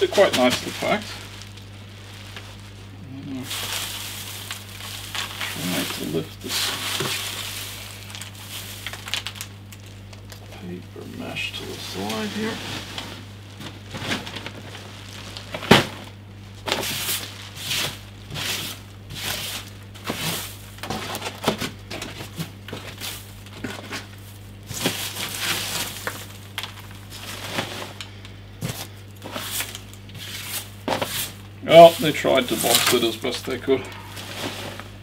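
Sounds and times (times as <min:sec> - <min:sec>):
shredded paper rustling: 0:00.0 - 0:35.0.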